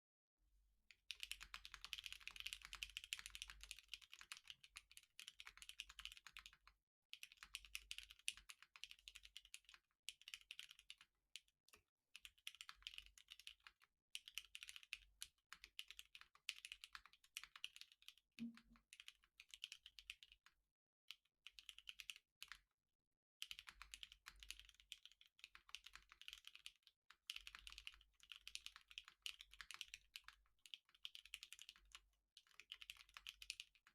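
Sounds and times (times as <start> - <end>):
mechanical keyboard typing: 1.1 - 11.0, 12.2 - 20.4, 21.5 - 22.6, 23.4 - 33.9.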